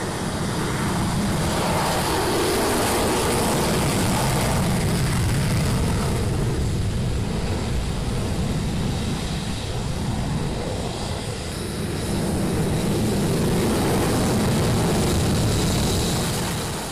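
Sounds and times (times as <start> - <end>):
jet engine afterburner roar: 0.0 - 16.9.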